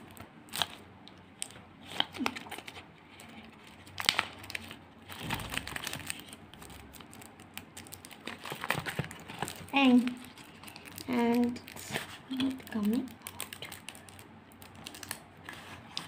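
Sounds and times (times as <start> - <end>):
plastic wrapper crinkling: 0.1 - 16.0.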